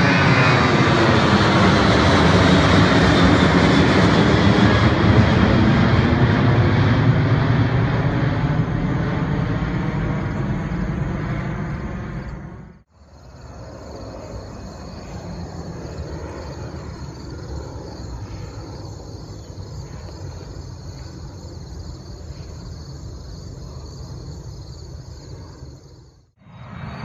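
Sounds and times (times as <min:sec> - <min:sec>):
distant jet engines rumbling: 0:00.0 - 0:27.0.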